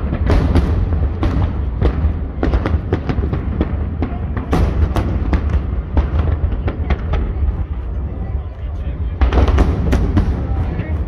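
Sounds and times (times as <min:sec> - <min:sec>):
continuous low rumble: 0:00.0 - 0:11.0
fireworks bursting: 0:00.0 - 0:11.0.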